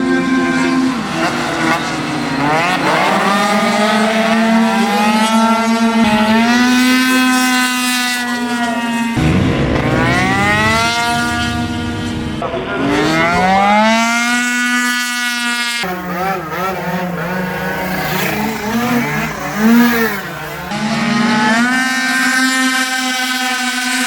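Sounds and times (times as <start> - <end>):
scooter engine revving: 0.0 - 24.0.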